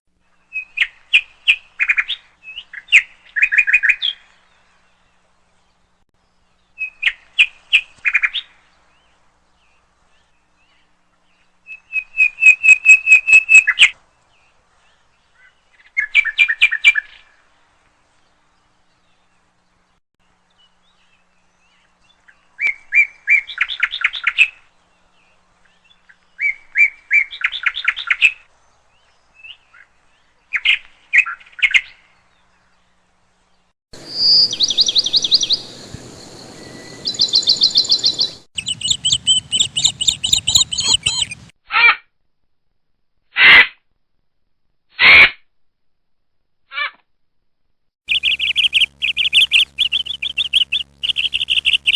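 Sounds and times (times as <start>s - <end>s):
songbird chirping: 0.2s - 41.5s, 48.1s - 51.9s.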